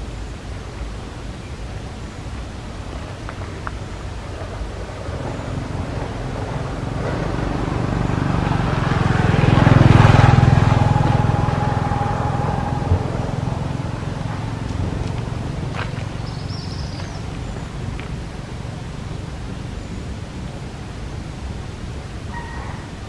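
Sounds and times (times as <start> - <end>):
vehicle passing by: 4.0 - 23.0.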